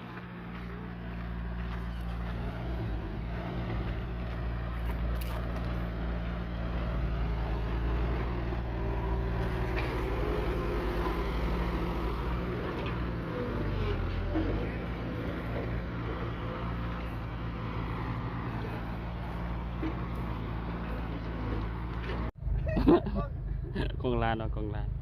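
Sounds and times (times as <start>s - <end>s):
engine humming steadily: 0.0s - 25.0s.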